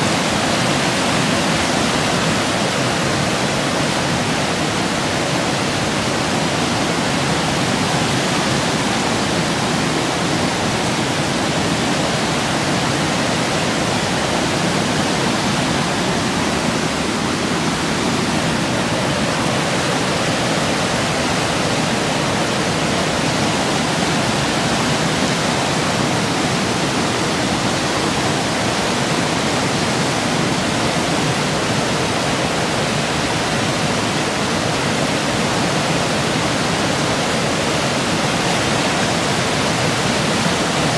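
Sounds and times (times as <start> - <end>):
river rushing through rapids: 0.0 - 40.9.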